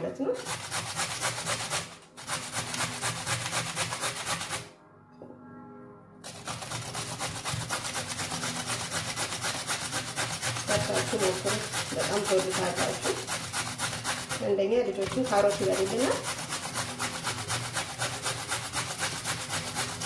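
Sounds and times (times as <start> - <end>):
carrot rasping on a grater: 0.3 - 4.7, 6.2 - 20.0.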